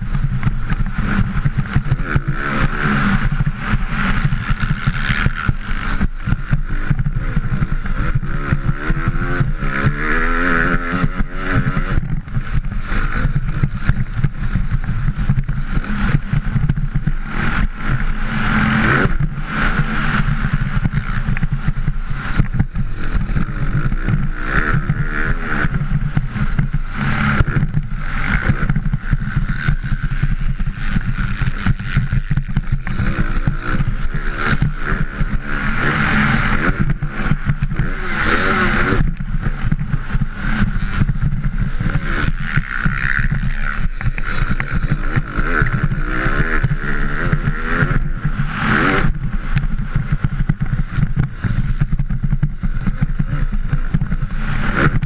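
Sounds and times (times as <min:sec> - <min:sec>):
dirt bike engine revving: 0:00.0 - 0:55.0
wind rumble on microphone: 0:00.0 - 0:55.0.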